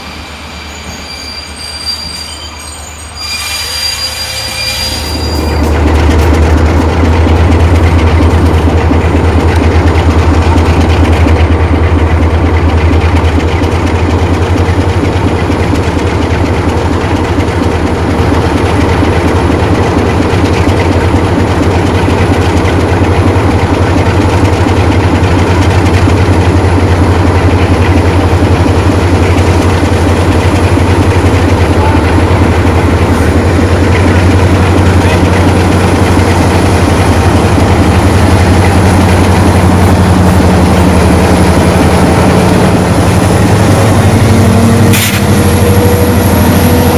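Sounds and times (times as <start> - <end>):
diesel locomotive engine throbbing: 0.0 - 46.9.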